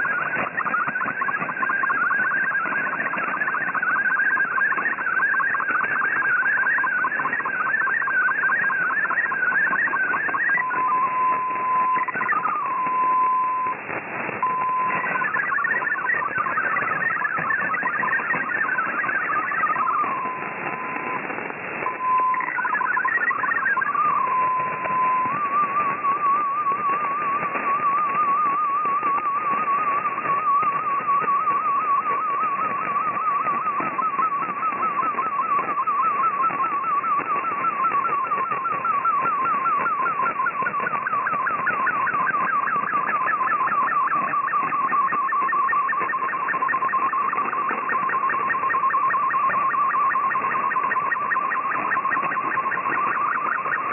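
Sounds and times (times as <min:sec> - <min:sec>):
chirping tones: 0:00.0 - 0:13.7, 0:14.4 - 0:53.9
shortwave static hiss: 0:00.0 - 0:53.9
warbling data tone: 0:00.0 - 0:53.9.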